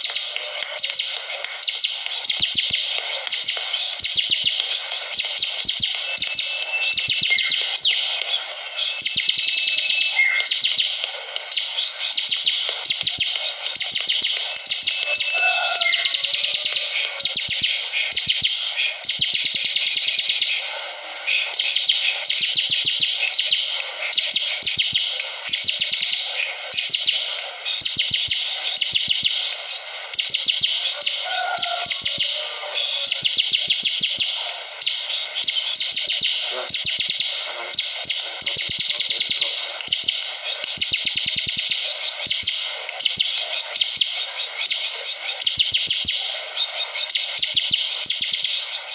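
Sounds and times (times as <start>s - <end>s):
bird singing fast buzzy trills: 0.0s - 48.9s.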